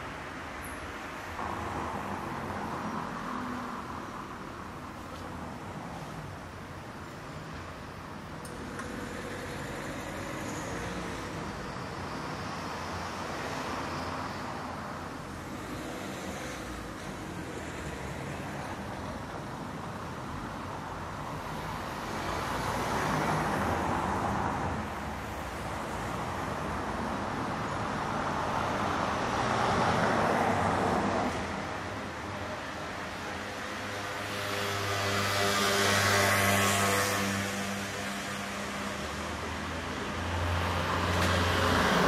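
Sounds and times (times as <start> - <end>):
city traffic noise: 0.0 - 42.0
vehicles passing close by: 0.0 - 42.0.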